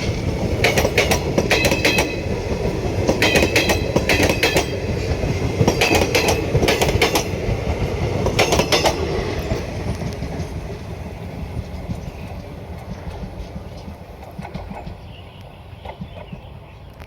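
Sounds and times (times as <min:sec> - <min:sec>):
train wheels clacking over joints: 0:00.0 - 0:15.2
train rumble: 0:00.0 - 0:17.0.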